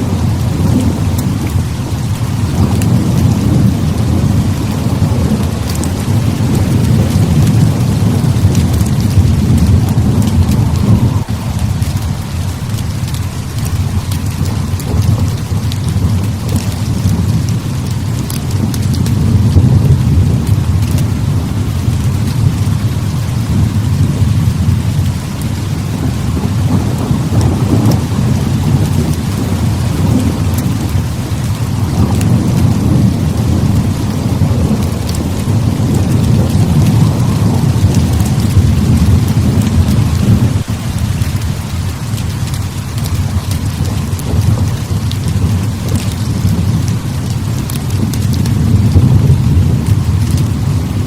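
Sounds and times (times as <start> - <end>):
heavy rain: 0.0 - 51.0
low rolling thunder: 0.0 - 51.0.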